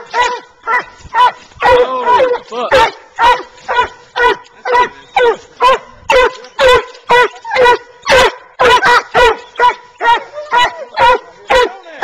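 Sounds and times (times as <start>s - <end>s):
hounds barking: 0.0s - 12.0s.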